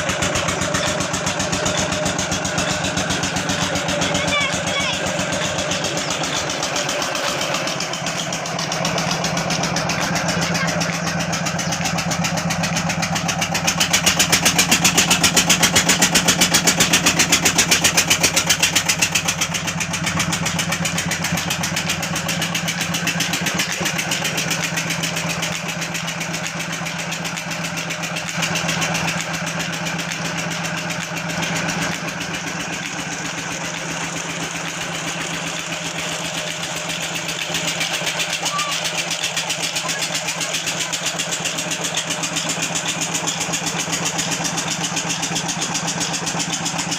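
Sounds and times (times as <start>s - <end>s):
stationary diesel engine running: 0.0s - 46.9s.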